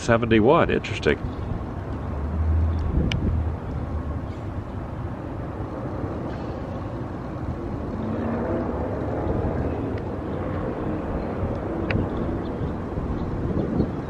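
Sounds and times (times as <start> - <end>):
traffic rumble: 0.0 - 14.0
vehicle engine hum: 0.0 - 14.0.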